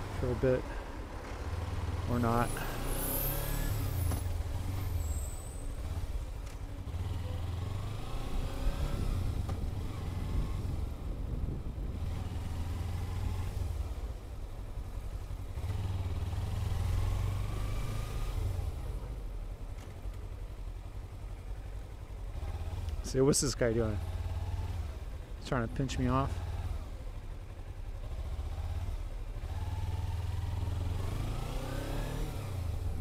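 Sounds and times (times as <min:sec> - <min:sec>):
motorcycle engine revving: 0:00.0 - 0:19.2, 0:22.1 - 0:33.0.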